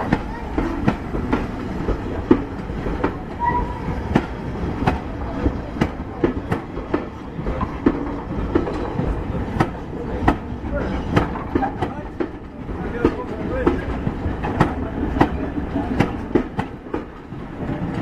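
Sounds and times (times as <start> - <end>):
steam train rumbling past: 0.0 - 18.0.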